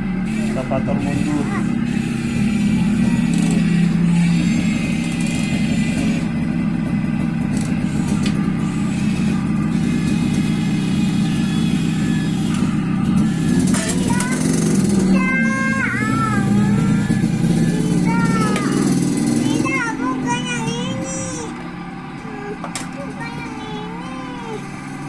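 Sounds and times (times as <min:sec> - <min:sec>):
toy excavator motors whirring: 0:00.0 - 0:25.0.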